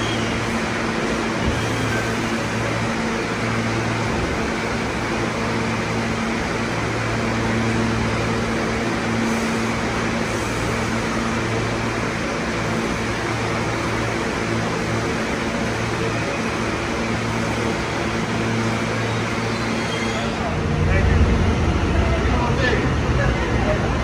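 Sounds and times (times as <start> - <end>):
subway car equipment humming: 0.0 - 24.0.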